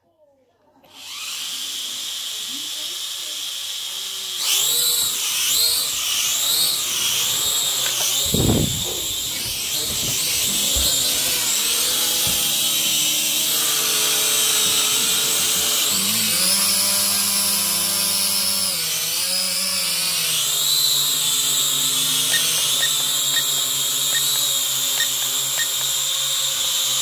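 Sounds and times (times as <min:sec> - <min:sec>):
quadcopter motors whining: 0:00.8 - 0:27.0.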